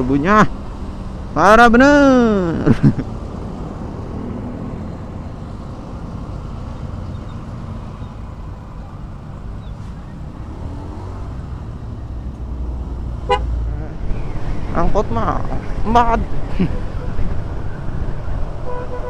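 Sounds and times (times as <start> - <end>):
rumble of surrounding traffic: 0.0 - 19.0.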